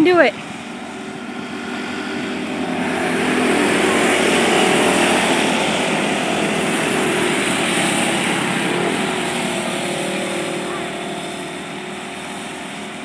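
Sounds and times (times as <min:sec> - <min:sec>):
small race car engines: 0:00.0 - 0:13.0.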